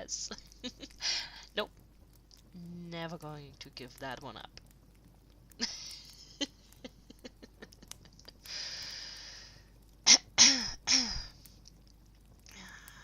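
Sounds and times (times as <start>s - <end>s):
fireplace fire crackling: 0.0s - 13.0s.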